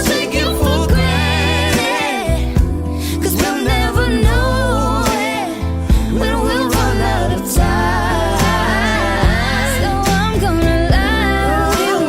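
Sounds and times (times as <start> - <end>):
pop song with sung vocal: 0.0 - 12.0.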